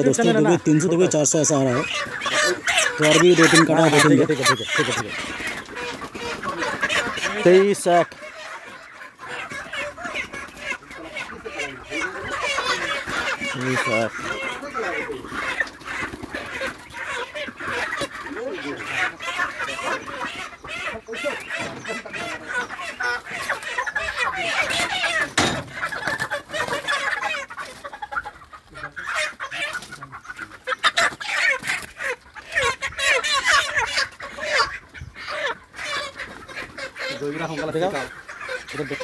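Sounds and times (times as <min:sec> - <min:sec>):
chickens squawking and clucking: 0:00.0 - 0:39.0.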